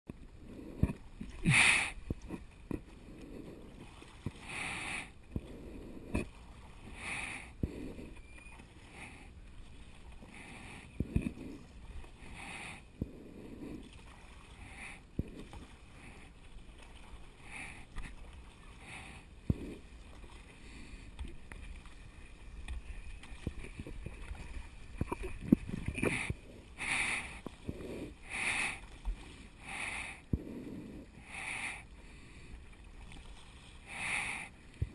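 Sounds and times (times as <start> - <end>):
water lapping at board: 0.1 - 34.9
paddle splashing in water: 0.8 - 30.3, 32.6 - 34.9.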